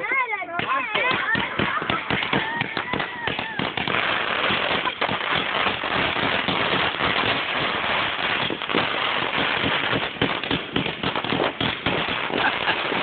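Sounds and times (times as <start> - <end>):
fireworks bursts and crackling: 0.0 - 13.0.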